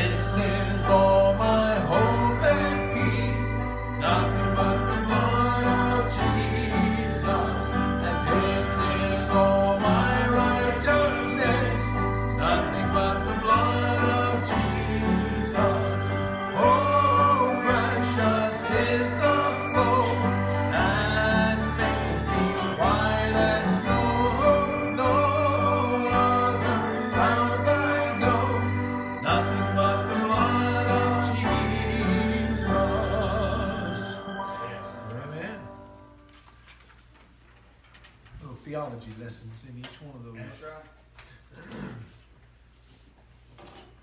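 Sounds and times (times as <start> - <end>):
man singing gospel into microphone: 0.0 - 35.9
instrumental accompaniment: 0.0 - 36.9.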